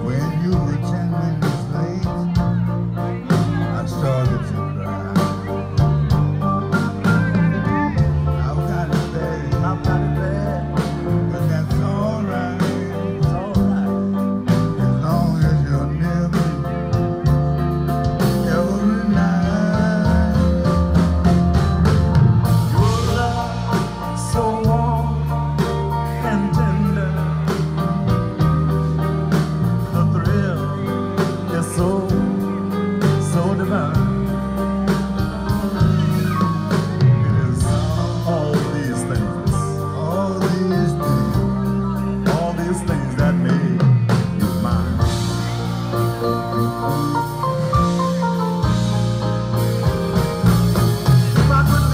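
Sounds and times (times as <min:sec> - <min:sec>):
electric bass line: 0:00.0 - 0:51.9
live band playing rhythm and blues: 0:00.0 - 0:51.9.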